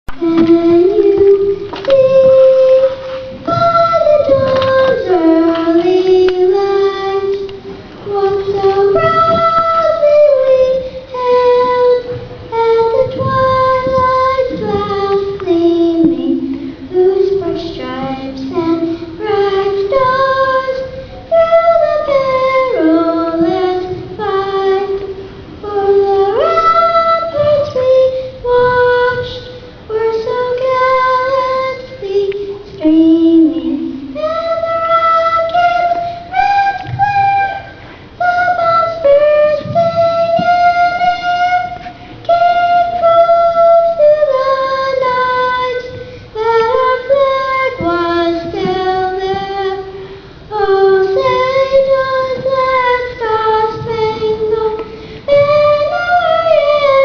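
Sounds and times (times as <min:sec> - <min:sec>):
girl singing into microphone: 0:00.1 - 0:57.0.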